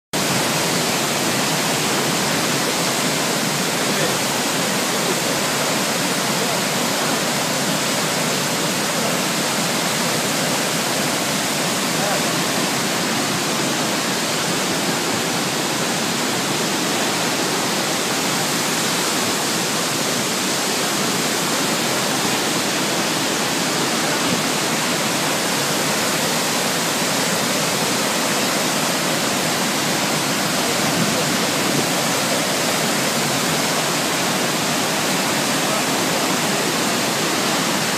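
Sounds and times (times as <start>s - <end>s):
waterfall rushing: 0.2s - 37.9s.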